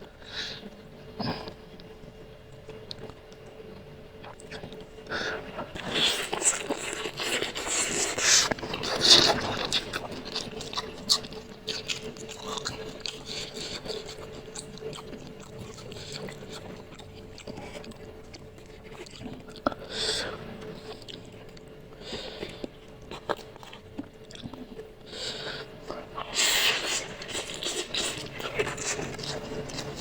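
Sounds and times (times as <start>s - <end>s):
person chewing noodles: 0.2s - 30.0s.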